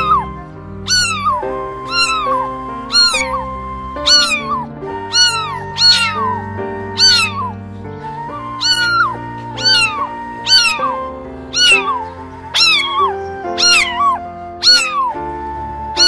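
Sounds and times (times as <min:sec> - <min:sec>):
cat meowing: 0:00.0 - 0:07.6, 0:08.4 - 0:15.2
background music with held notes: 0:00.0 - 0:16.0.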